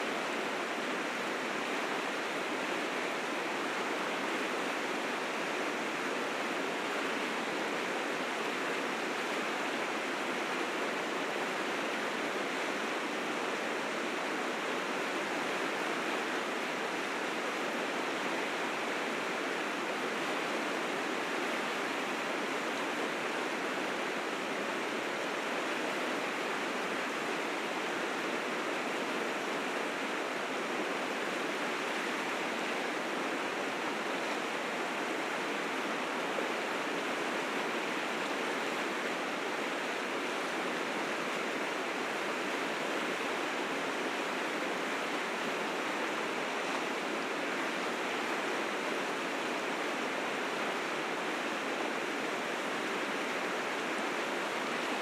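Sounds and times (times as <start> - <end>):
rapids roaring: 0.0 - 55.0.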